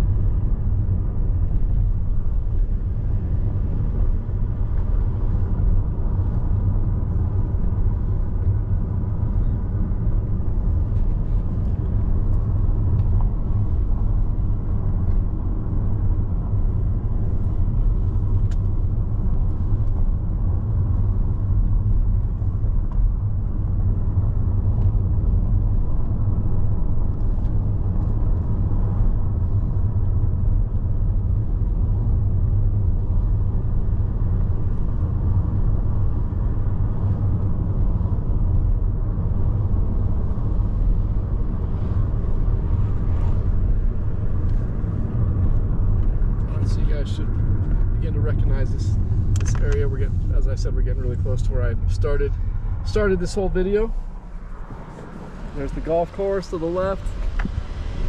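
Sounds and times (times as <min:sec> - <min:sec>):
car interior road and engine rumble: 0:00.0 - 0:58.0.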